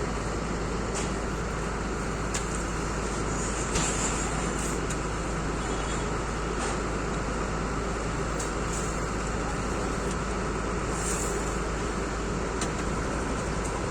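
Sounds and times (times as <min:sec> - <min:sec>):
road traffic: 0:00.0 - 0:13.9.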